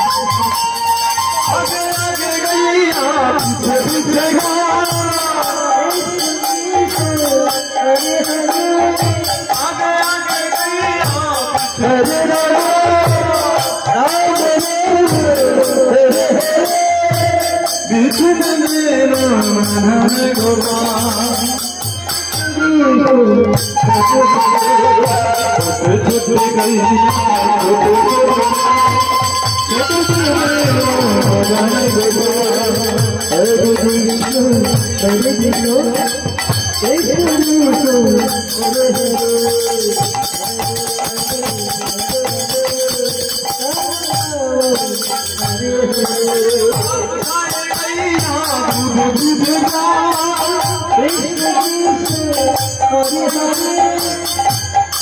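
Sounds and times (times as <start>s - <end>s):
devotional music with drum: 0.0s - 55.0s.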